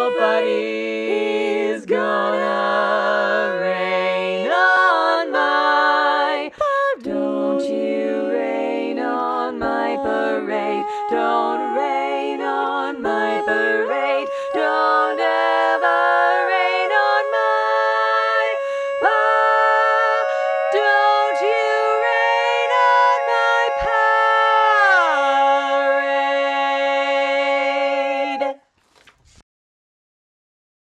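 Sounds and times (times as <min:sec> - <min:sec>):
barbershop chorus singing a cappella: 0:00.0 - 0:28.6.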